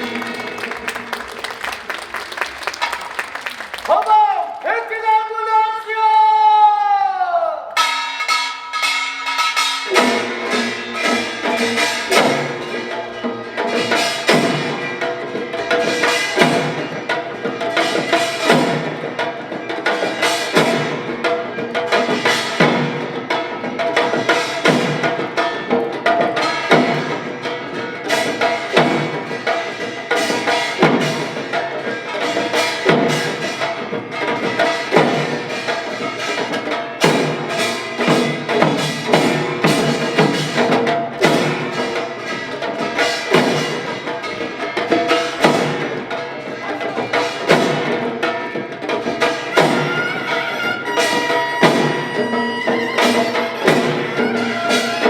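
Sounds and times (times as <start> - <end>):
percussion ensemble drumming: 0.0 - 5.2, 7.8 - 55.0.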